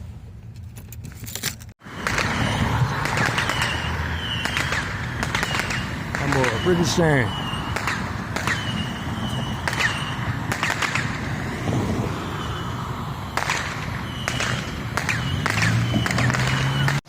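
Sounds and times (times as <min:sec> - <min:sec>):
fireworks cracking: 0:01.8 - 0:12.6, 0:13.2 - 0:17.0.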